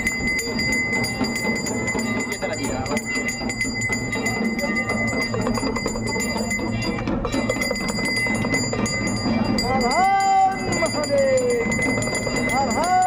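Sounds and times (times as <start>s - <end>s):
bells ringing: 0.0s - 13.0s
crowd din: 0.0s - 13.0s.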